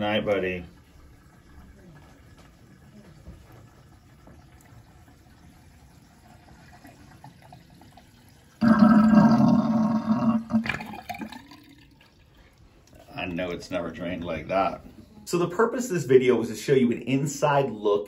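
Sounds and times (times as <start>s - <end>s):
sink drain sucking gurgle: 0.0s - 15.0s
faint water trickling: 0.0s - 18.0s.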